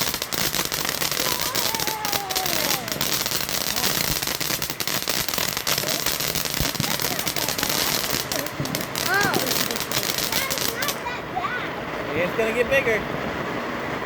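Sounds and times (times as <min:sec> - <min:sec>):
firework crackling and popping: 0:00.0 - 0:11.5.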